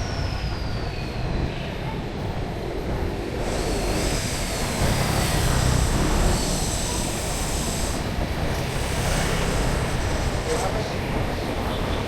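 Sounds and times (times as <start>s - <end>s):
traffic engine rumble: 1.7s - 12.0s.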